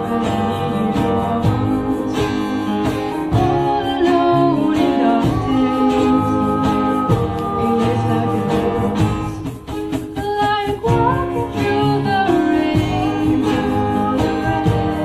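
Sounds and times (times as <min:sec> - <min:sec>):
guitar with steady beat: 0:00.0 - 0:15.0
person singing: 0:00.0 - 0:15.0.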